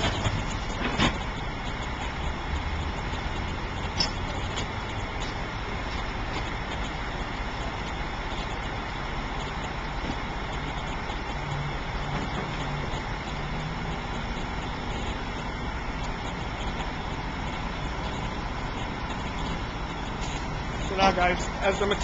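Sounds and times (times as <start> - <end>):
truck idling: 0.0 - 22.0.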